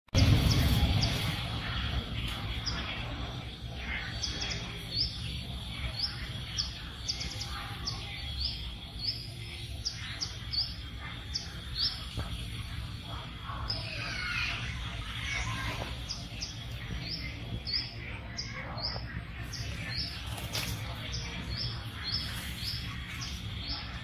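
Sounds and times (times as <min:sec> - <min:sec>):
small bird chirping: 0:00.2 - 0:24.0
steady low rumble: 0:00.2 - 0:24.0.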